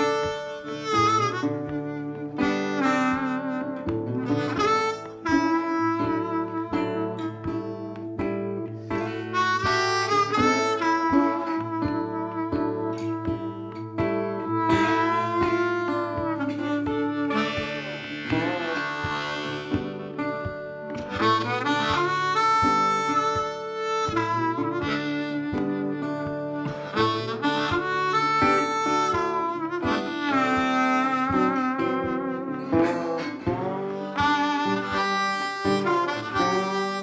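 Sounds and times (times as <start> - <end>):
bluesy harmonica melody: 0.0 - 37.0
guitar: 0.0 - 37.0.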